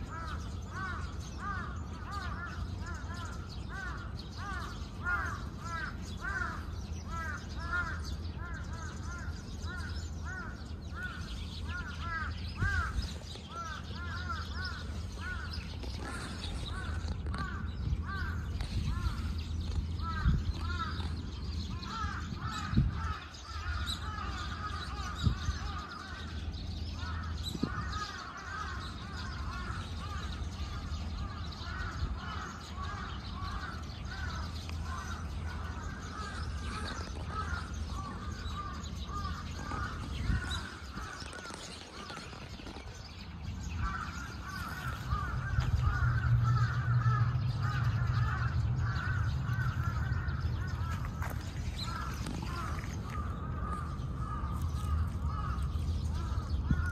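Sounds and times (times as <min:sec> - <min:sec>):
flock of birds calling: 0:00.0 - 0:56.9
steady low rumble: 0:00.0 - 0:56.9.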